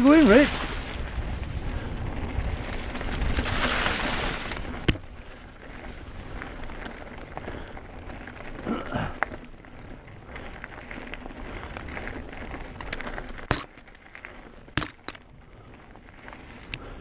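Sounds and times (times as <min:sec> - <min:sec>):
bike tyres on rocky trail: 0:00.0 - 0:17.0.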